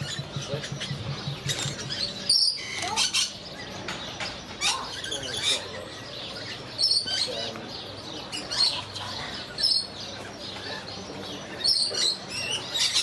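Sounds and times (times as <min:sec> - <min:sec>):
lorikeets screeching: 0:00.0 - 0:13.0.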